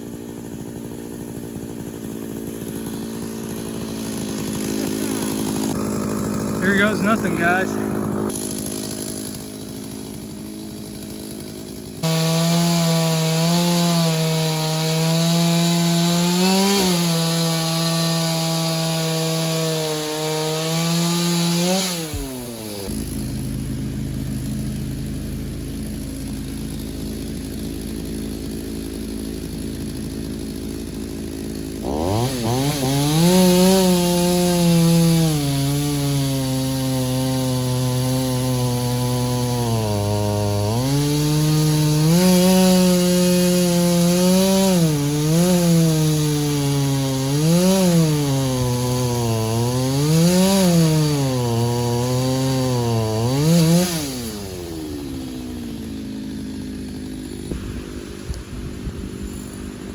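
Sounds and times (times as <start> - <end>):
chainsaw cutting into tree: 0.0 - 59.9.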